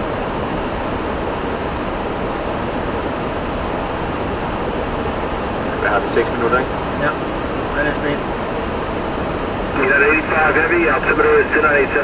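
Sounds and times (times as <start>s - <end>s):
cockpit airflow and engine hiss: 0.0s - 12.0s.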